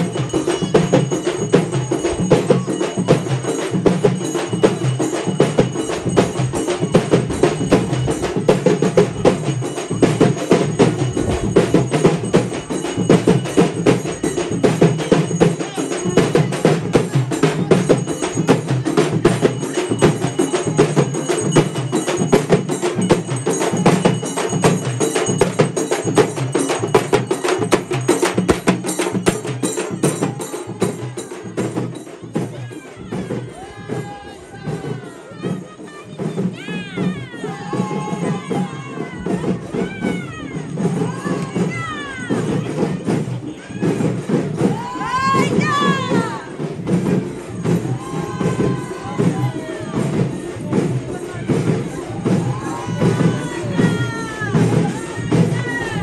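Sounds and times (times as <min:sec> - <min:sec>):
drums beating: 0:00.0 - 0:56.0
hand cymbals clashing: 0:00.0 - 0:56.0.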